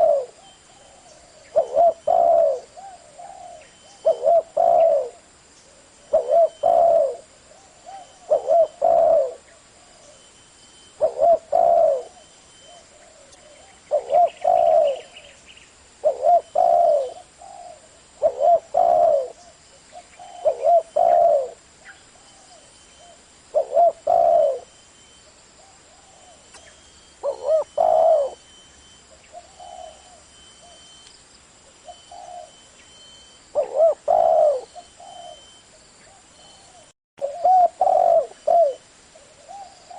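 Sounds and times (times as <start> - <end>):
dove cooing: 0.0 - 10.3, 11.0 - 15.4, 16.0 - 24.8, 25.6 - 31.0, 31.7 - 39.9.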